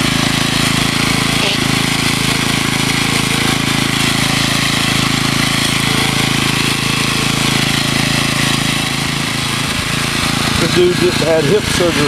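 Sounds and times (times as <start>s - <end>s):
garden tiller engine running: 0.0s - 12.0s.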